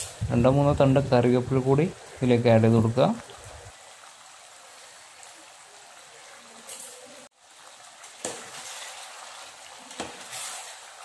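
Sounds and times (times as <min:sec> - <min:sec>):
sauce bubbling in a pan: 0:00.0 - 0:11.0.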